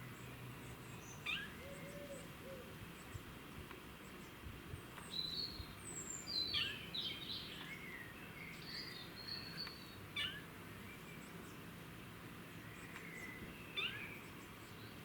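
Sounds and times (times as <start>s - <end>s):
small bird singing: 0.1s - 3.2s, 4.0s - 11.7s, 12.5s - 15.0s.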